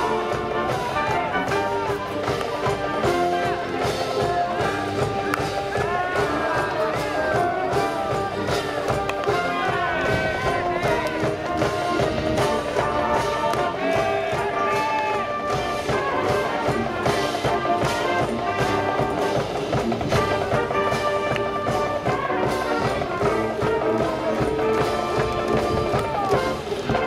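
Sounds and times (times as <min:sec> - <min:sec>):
brass playing tune: 0:00.0 - 0:27.0
steady drum beat: 0:00.0 - 0:27.0.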